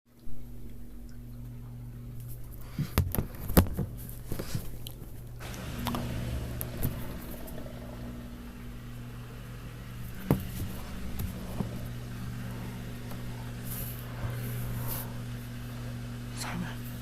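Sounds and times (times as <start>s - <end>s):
washing machine motor hum: 0.1s - 17.0s.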